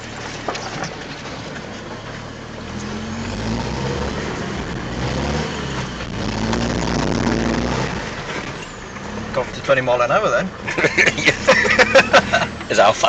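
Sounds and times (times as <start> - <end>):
pickup truck engine from inside cab: 0.0 - 13.0
tyre and road noise: 0.0 - 13.0.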